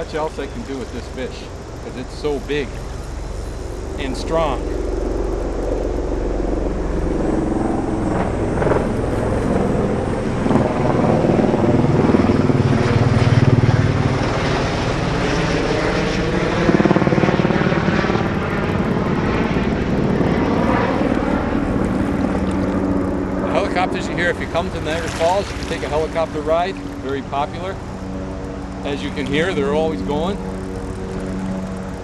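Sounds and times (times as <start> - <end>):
helicopter passing overhead: 0.0 - 32.0.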